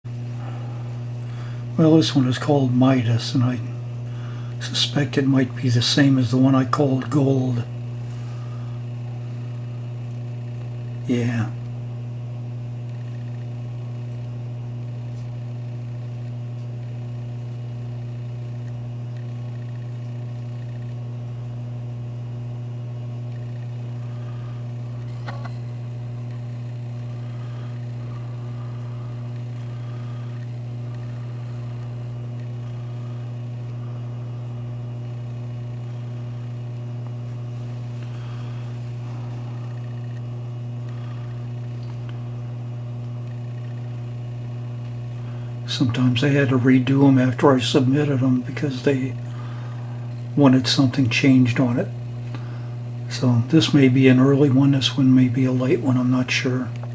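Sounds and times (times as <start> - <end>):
low electrical hum: 0.1 - 56.9.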